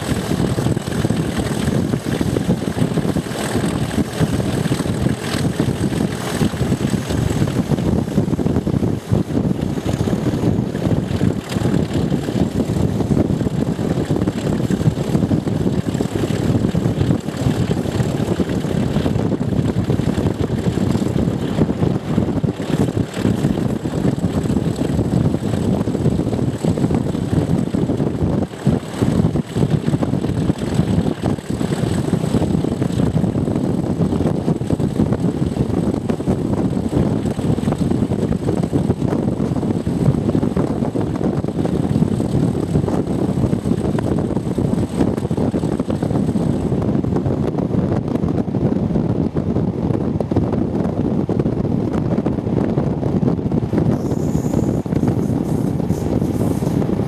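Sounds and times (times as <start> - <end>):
diesel locomotive engine running: 0.0 - 57.0
wind rushing: 0.0 - 57.0.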